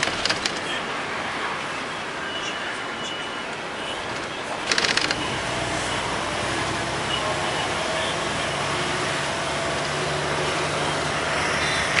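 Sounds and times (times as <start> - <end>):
bus road and engine noise: 0.0 - 12.0.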